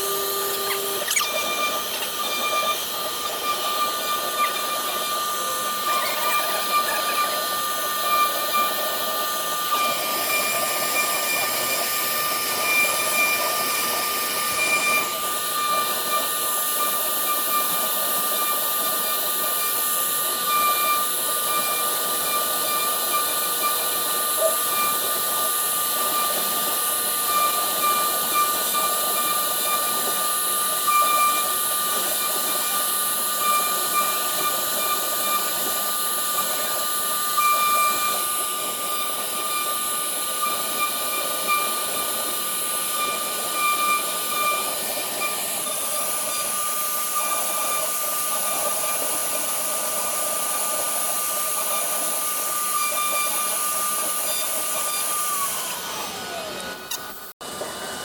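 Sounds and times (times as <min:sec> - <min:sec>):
router spindle high-pitched whine: 0:00.0 - 0:58.0.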